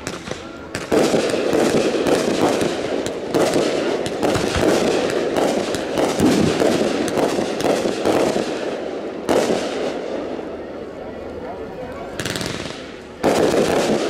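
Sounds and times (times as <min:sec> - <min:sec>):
fireworks crackling: 0:00.0 - 0:14.0
fireworks sharp reports: 0:00.0 - 0:14.0.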